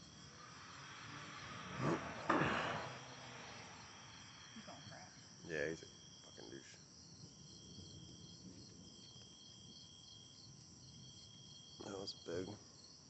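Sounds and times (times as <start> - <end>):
crickets chirring: 0.0 - 13.0
high insect trill: 0.0 - 13.0.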